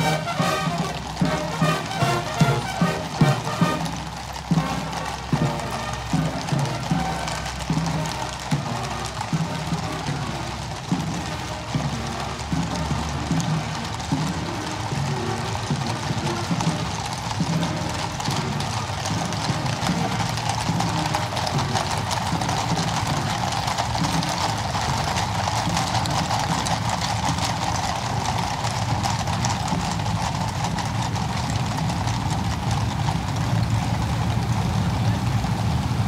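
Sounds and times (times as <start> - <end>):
horse hooves on cobblestones: 0.0 - 36.0
motorcycle engines: 0.0 - 36.0.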